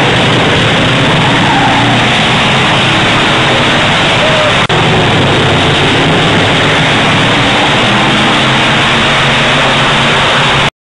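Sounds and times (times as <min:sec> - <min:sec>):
stock car engines racing: 0:00.0 - 0:10.7.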